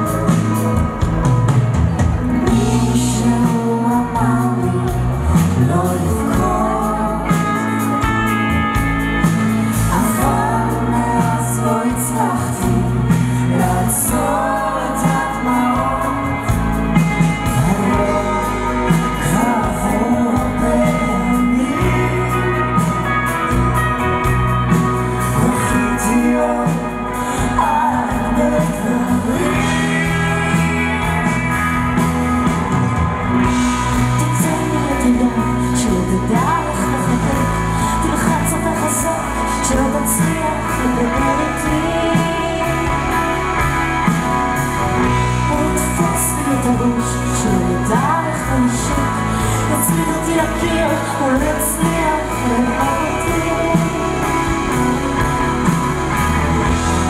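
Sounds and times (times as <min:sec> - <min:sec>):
acoustic and electric guitars: 0:00.0 - 0:57.0
drums: 0:00.0 - 0:57.0
male lead vocal: 0:00.0 - 0:57.0.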